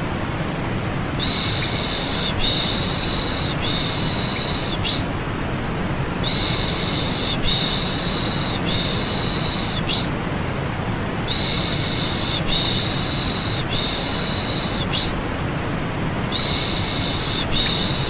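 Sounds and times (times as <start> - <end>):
steady white noise: 0.0 - 18.0.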